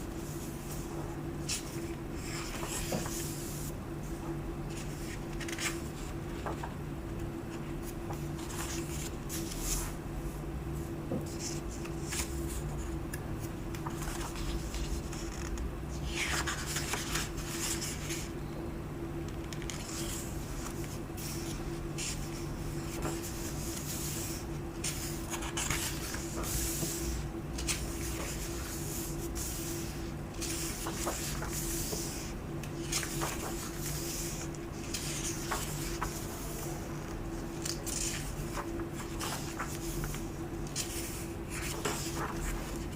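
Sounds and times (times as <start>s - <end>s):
steady low hum: 0.0s - 42.9s
book pages turning: 0.2s - 3.7s, 4.7s - 6.8s, 7.5s - 10.0s, 11.2s - 12.9s, 13.6s - 18.3s, 19.4s - 42.9s.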